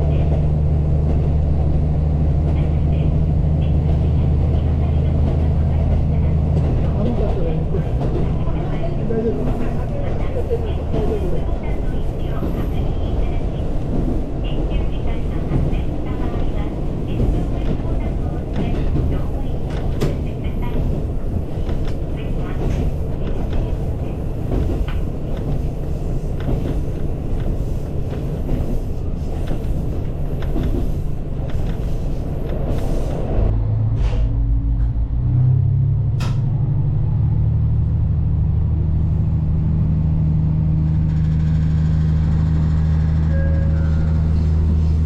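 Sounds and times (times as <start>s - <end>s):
moving vehicle rumble and rattle: 0.0s - 45.0s.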